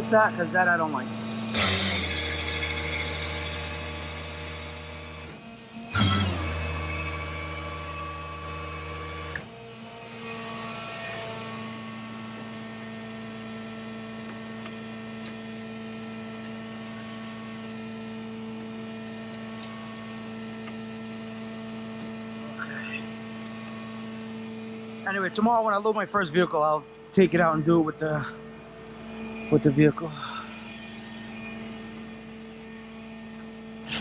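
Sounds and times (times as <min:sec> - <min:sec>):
steady mechanical hum: 0:00.0 - 0:34.0
winch motor spooling cable: 0:00.6 - 0:34.0.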